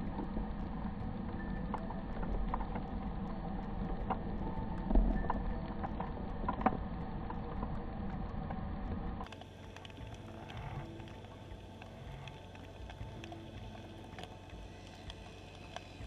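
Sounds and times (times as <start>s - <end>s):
faint hum: 0.0s - 16.0s
low rumble: 0.0s - 16.0s.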